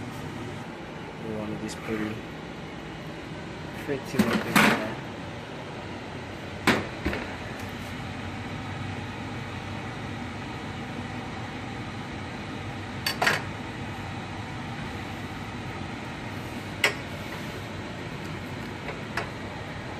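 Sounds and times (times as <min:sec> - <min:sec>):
fan-like kitchen noise: 0:00.0 - 0:19.9.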